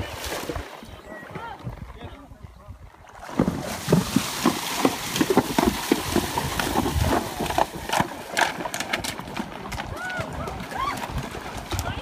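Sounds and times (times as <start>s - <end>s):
hooves splashing in water: 0.0s - 2.2s, 2.8s - 12.0s.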